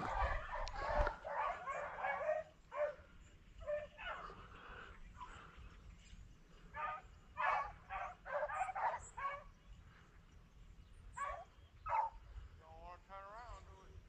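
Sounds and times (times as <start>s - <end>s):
hounds barking and baying: 0.0s - 10.3s, 11.0s - 12.4s.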